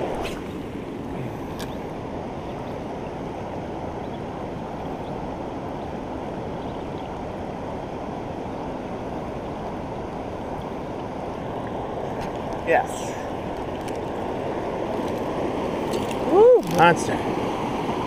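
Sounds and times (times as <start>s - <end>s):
flowing river water: 0.0s - 18.0s.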